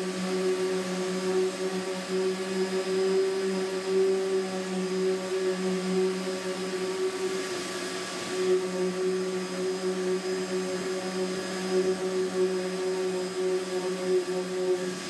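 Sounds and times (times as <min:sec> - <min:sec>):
electric sander on fibreglass: 0:00.0 - 0:15.0.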